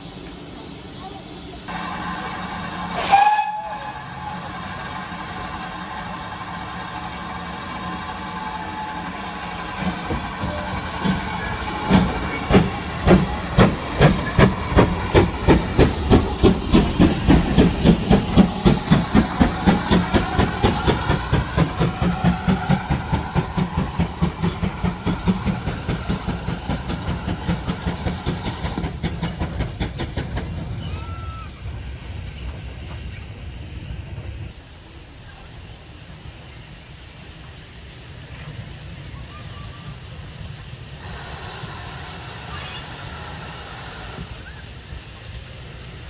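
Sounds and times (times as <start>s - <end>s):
steam hissing: 0.0s - 46.0s
steam locomotive chuffing: 0.0s - 46.0s.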